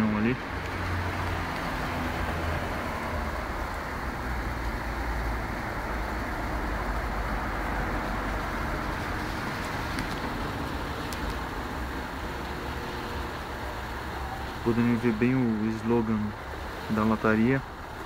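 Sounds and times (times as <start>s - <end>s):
truck engine idling: 2.2s - 18.0s.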